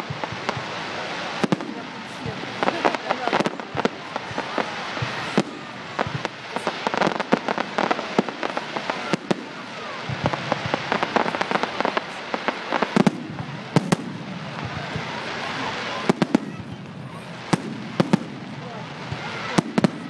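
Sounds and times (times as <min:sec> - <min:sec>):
fireworks crackling: 0:00.0 - 0:20.0
fireworks pops and bangs: 0:00.0 - 0:20.0.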